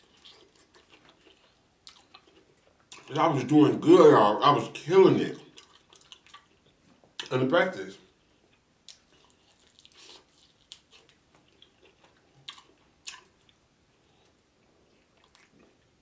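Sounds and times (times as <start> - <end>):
chewing fried chicken: 0.0 - 4.3, 5.3 - 7.4, 8.0 - 16.0.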